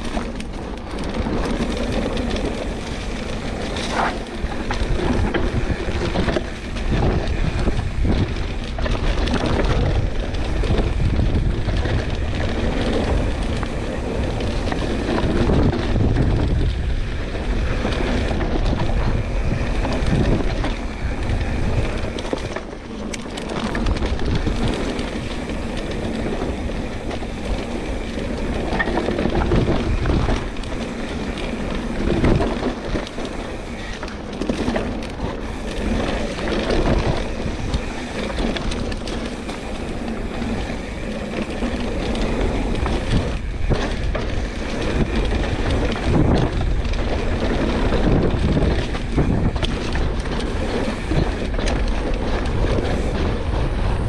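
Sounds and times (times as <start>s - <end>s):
bike knocking and rattling: 0.0s - 54.0s
bike tyres rolling over dirt: 0.0s - 54.0s
wind buffeting microphone: 0.0s - 54.0s.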